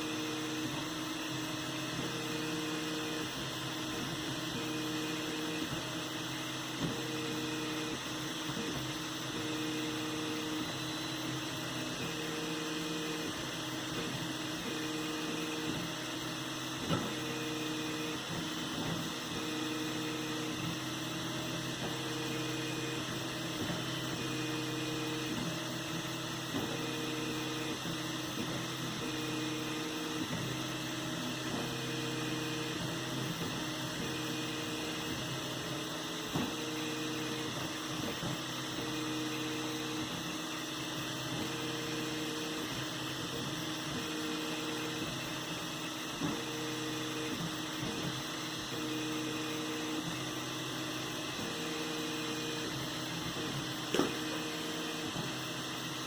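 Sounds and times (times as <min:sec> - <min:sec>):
printer motor hum: 0:00.0 - 0:56.0
stepper motor tone: 0:00.0 - 0:56.0.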